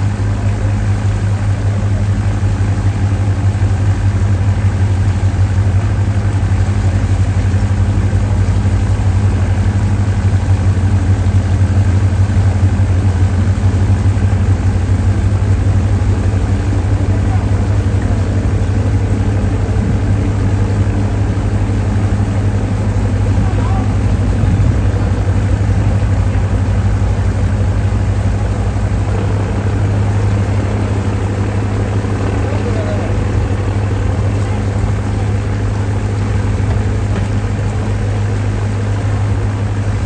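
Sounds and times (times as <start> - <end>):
diesel boat engine idling: 0.0 - 40.0.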